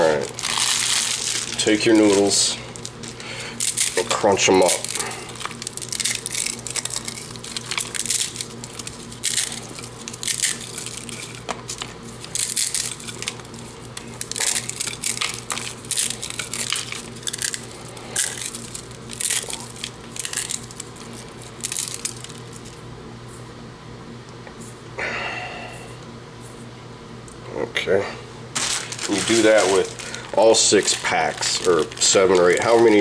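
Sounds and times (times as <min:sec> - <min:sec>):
dry noodles crunched in packets: 0:00.0 - 0:22.7, 0:28.6 - 0:33.0
steady low hum: 0:00.0 - 0:33.0.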